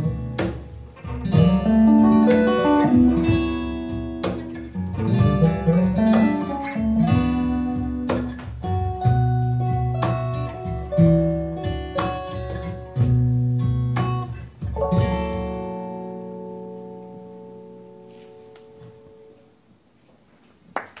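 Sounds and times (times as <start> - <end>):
guitars strumming chords: 0.0 - 19.7.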